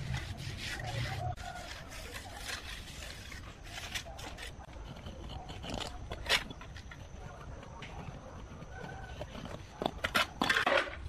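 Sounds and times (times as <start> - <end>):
trowel scraping wet mortar: 0.0 - 10.7.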